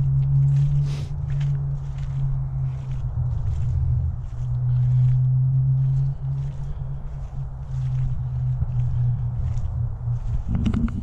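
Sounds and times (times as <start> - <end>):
footsteps on muddy path: 0.0 - 11.0
steady low drone: 0.0 - 11.0.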